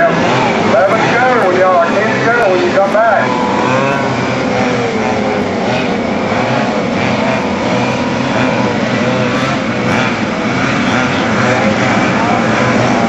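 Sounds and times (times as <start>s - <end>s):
small two-stroke engines buzzing: 0.0s - 13.0s.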